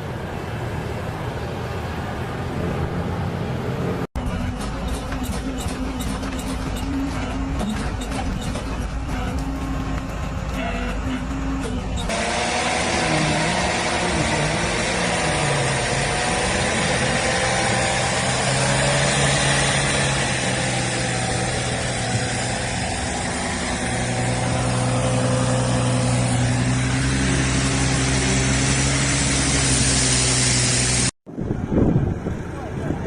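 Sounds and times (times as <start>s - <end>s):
road noise: 0.0s - 33.0s
vehicle engine running: 0.0s - 33.0s.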